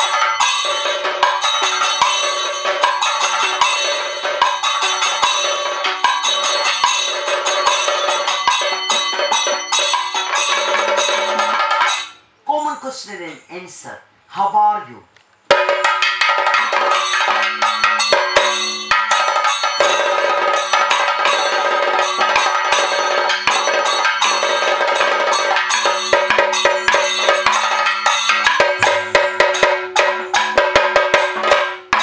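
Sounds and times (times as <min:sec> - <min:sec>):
drum beaten with sticks in rolls: 0:00.0 - 0:12.2, 0:15.5 - 0:32.0
small hand cymbals: 0:00.0 - 0:12.3, 0:15.5 - 0:32.0.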